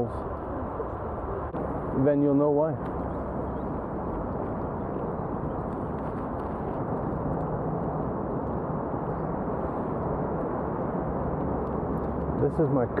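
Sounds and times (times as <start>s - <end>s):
bicycle rolling rumble: 0.0s - 13.0s
wind rush on microphone: 0.0s - 13.0s.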